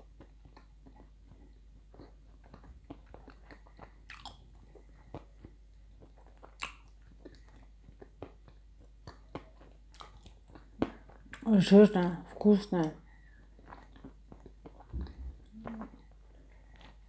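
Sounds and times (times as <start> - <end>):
crunching and chewing clay: 0.0 - 17.0.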